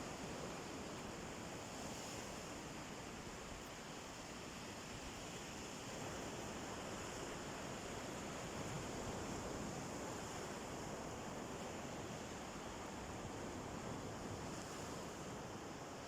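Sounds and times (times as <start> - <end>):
sea waves washing onto beach: 0.0 - 16.0.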